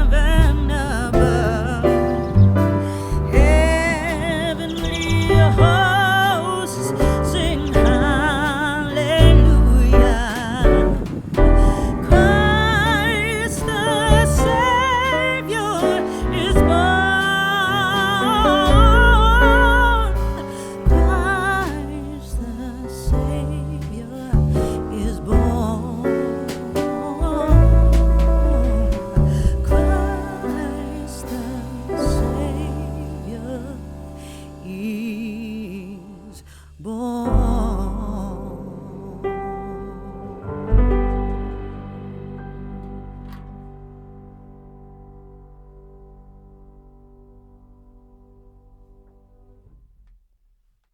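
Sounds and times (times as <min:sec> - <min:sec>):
slow song with vibrato singing: 0:00.0 - 0:44.0.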